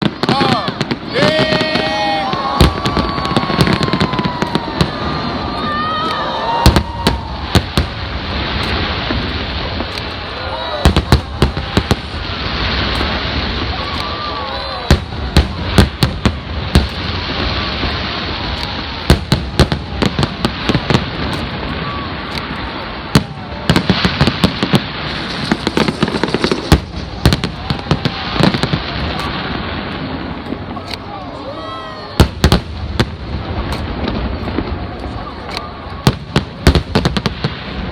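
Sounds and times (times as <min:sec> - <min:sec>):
fireworks shells bursting: 0:00.0 - 0:31.1, 0:32.2 - 0:37.9.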